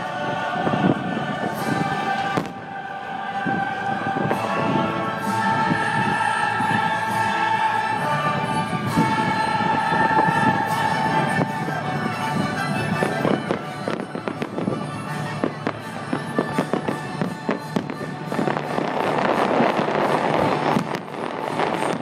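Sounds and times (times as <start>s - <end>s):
music playing: 0.0s - 22.0s.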